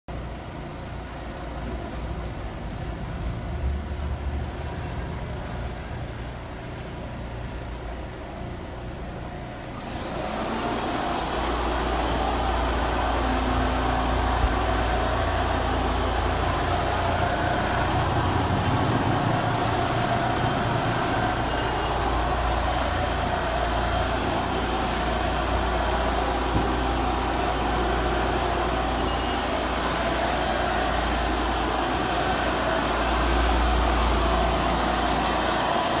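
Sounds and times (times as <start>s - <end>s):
floor-cleaning machine running: 0.1s - 36.0s.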